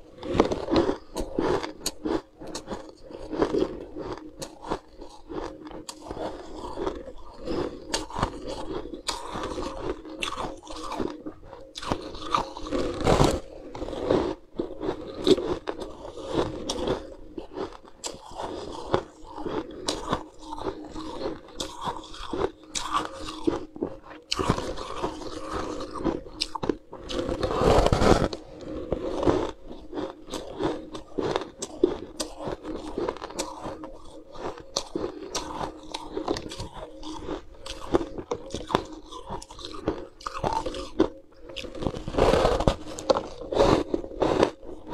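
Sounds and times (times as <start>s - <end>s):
ice crunching being chewed: 0.0s - 44.9s.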